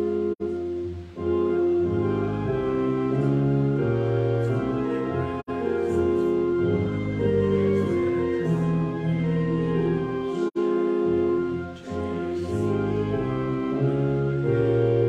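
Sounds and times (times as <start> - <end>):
hymn on a keyboard: 0.0 - 15.0.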